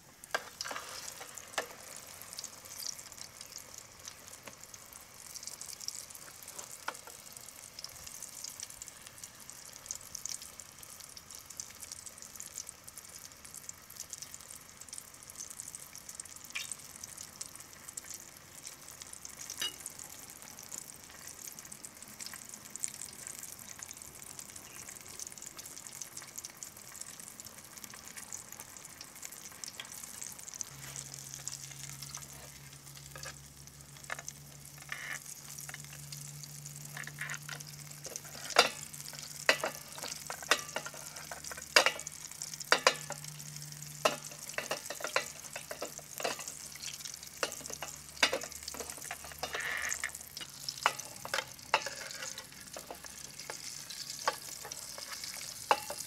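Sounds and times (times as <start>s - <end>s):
meat deep-frying in oil: 0.0s - 56.0s.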